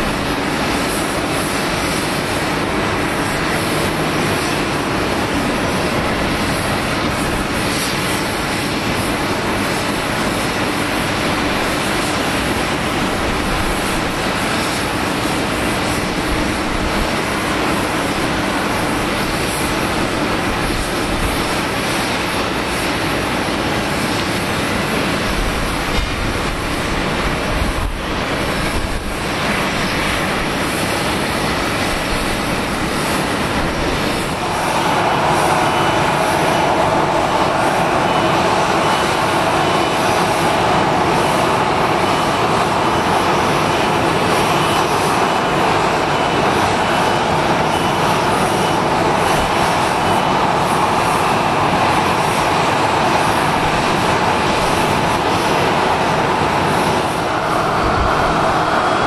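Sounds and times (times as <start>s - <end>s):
jet aircraft engine noise: 0.0s - 59.0s.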